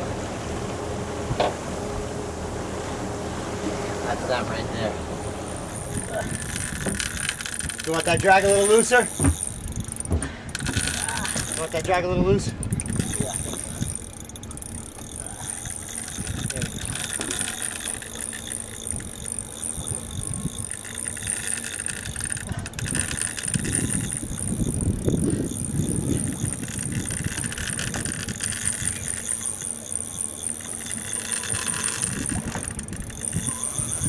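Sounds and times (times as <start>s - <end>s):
wind: 0.0s - 34.0s
fishing reel drag clicking: 5.5s - 34.0s.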